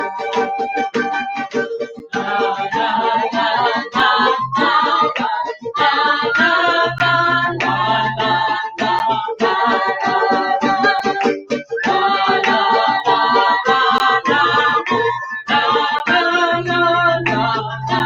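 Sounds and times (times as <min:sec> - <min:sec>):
person singing over music: 0:00.0 - 0:18.0.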